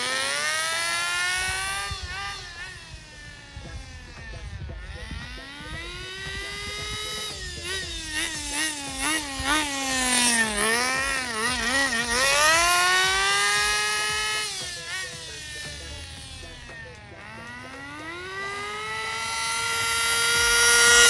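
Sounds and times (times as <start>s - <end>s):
rc car engine revving: 0.0s - 21.0s.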